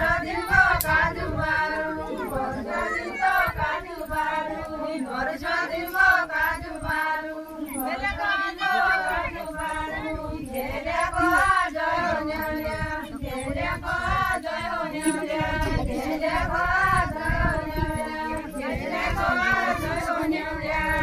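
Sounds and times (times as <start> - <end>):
women singing unaccompanied: 0.0 - 21.0.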